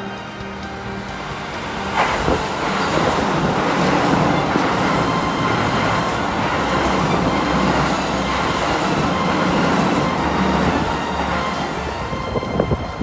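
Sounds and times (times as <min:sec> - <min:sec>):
electric train passing at speed: 0:00.0 - 0:13.0
wheels on rail with ticks: 0:00.0 - 0:13.0.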